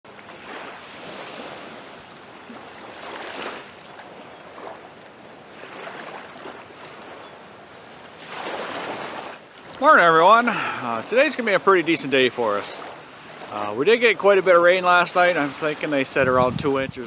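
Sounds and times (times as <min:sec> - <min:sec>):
small waves lapping on sand: 0:00.1 - 0:16.9.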